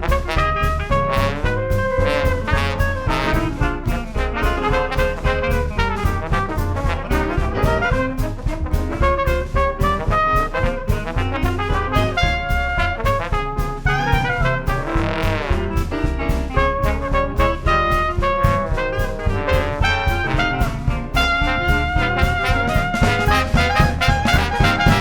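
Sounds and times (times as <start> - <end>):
bass: 0.0 - 25.0
drums keeping a steady beat: 0.0 - 25.0
piano: 0.0 - 25.0
trombone: 0.0 - 25.0
trumpet: 0.0 - 25.0.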